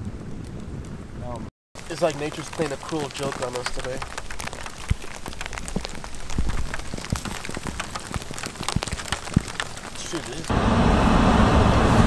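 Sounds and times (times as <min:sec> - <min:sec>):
rain and snow pattering: 0:00.0 - 0:10.7.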